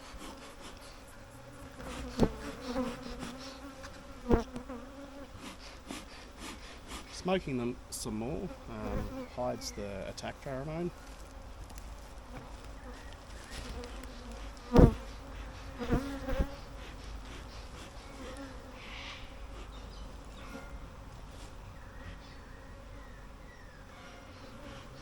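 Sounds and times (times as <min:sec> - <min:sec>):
bees buzzing: 0:00.0 - 0:11.6, 0:12.2 - 0:21.0.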